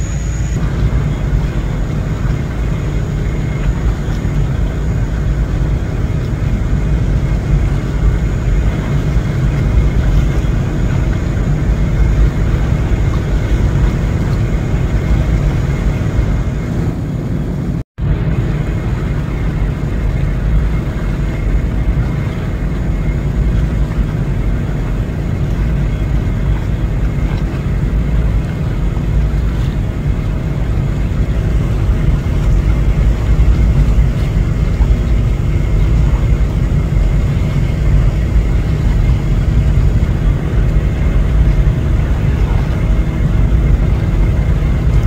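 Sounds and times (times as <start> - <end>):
faint steady hum: 0.0 - 45.0
low engine rumble: 0.0 - 45.0.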